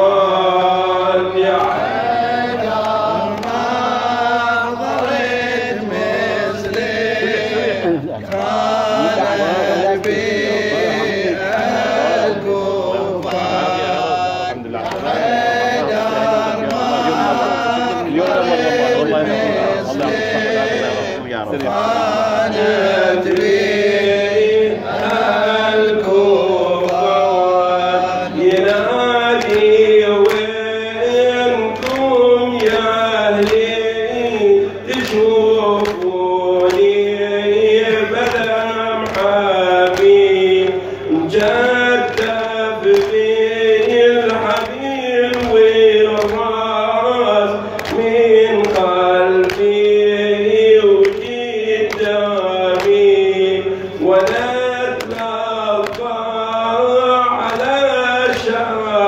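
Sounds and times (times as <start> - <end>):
man chanting a lament: 0.0 - 59.0.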